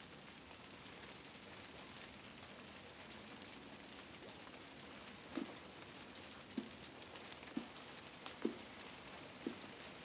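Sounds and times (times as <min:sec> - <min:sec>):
faint steady rain: 0:00.0 - 0:10.0.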